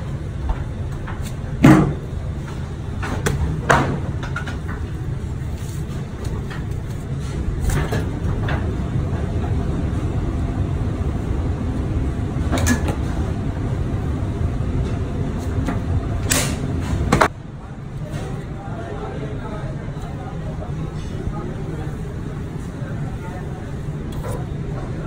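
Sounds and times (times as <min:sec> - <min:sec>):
extractor hood fan rumble: 0:00.0 - 0:25.0.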